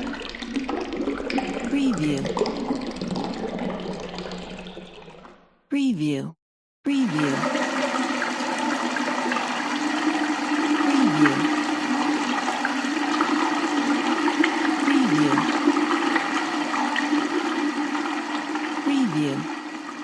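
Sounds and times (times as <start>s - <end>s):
rushing flushing water: 0.0s - 5.4s, 7.1s - 20.0s.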